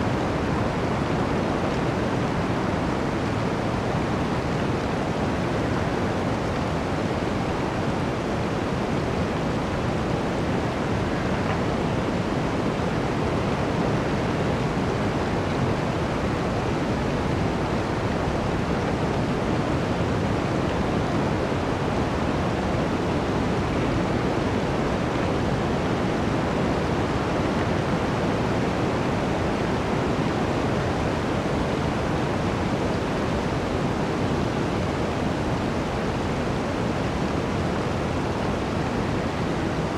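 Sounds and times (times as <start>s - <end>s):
blizzard wind through forest: 0.0s - 39.9s.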